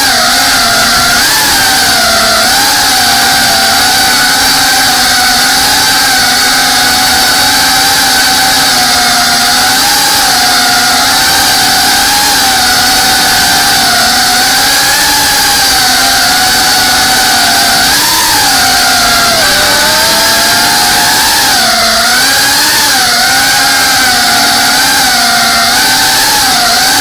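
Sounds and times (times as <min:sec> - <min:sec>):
drone motors whining: 0:00.0 - 0:27.0.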